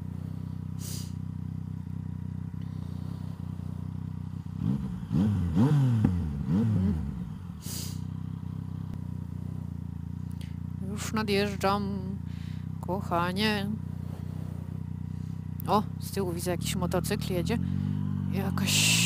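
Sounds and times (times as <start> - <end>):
motorcycle engine idling: 0.0 - 19.0
motorcycle throttle blips: 0.0 - 19.0.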